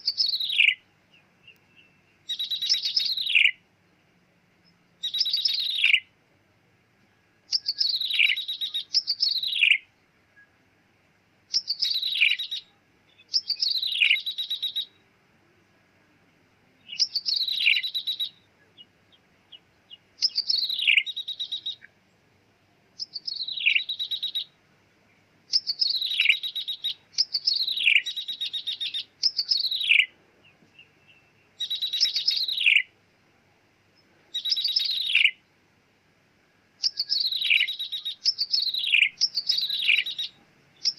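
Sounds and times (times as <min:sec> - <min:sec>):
bird song buzzy trill: 0:00.0 - 0:06.2, 0:07.0 - 0:10.7, 0:11.4 - 0:15.8, 0:16.7 - 0:33.0, 0:33.9 - 0:35.6, 0:36.4 - 0:40.9.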